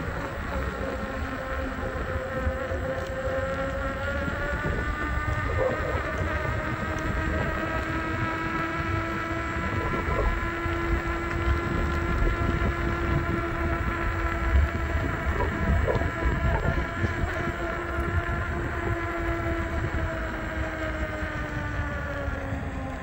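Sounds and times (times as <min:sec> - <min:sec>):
electric motor whining: 0:00.0 - 0:23.0
wind rumbling on microphone: 0:00.0 - 0:23.0.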